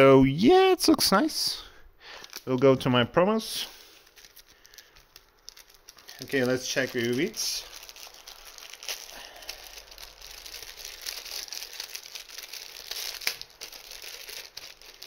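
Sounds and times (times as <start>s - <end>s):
plastic packaging crinkling: 2.1s - 2.9s, 3.6s - 15.0s.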